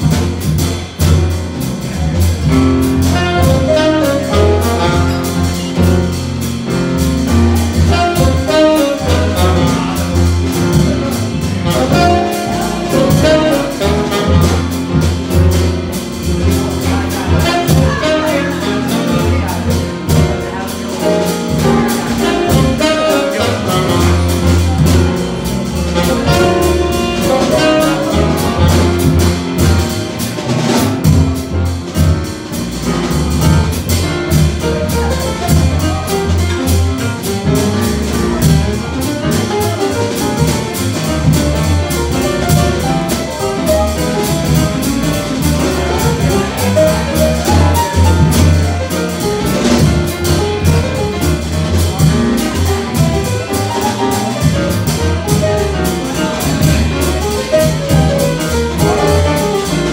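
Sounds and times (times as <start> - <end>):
acoustic piano lead: 0.0 - 59.9
jazz blues band: 0.0 - 59.9.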